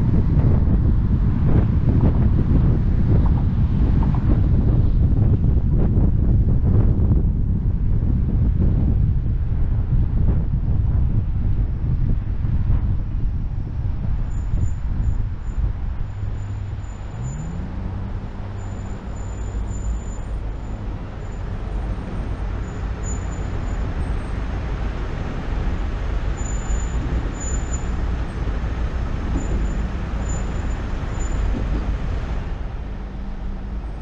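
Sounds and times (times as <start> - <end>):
car engine hum: 0.0 - 34.0
road and wind noise: 0.0 - 34.0.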